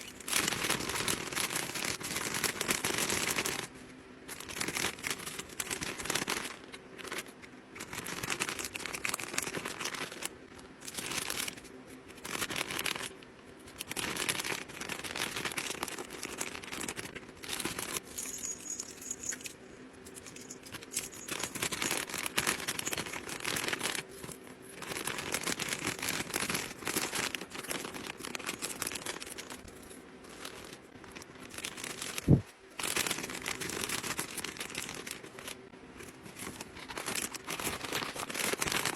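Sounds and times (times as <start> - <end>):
packaging crinkling: 0.0 - 38.9.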